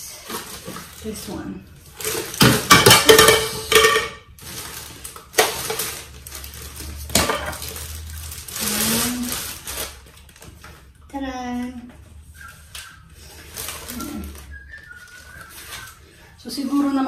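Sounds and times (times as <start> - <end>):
cardboard packaging rustling: 0.0 - 11.0, 12.1 - 17.0
plastic bag crinkling: 0.0 - 11.0, 12.3 - 17.0.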